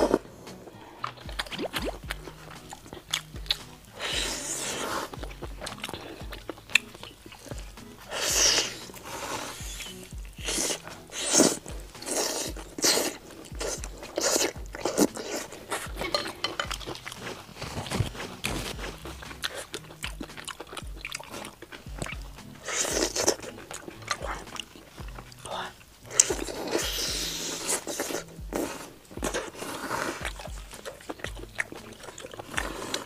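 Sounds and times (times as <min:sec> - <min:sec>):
background music: 0:00.0 - 0:33.0
crunchy chewing: 0:00.0 - 0:33.0.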